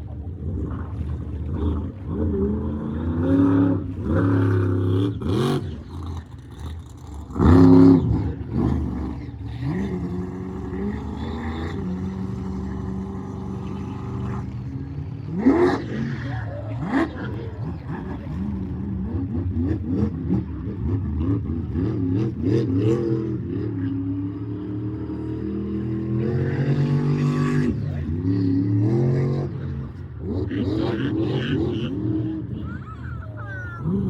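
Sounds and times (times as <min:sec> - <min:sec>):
truck engine revving: 0:01.5 - 0:34.0.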